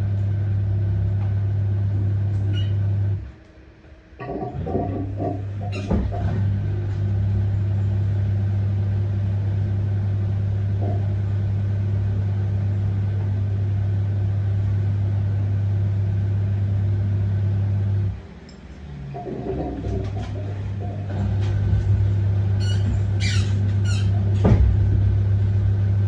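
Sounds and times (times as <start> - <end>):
washing machine pump humming: 0.0 - 26.0.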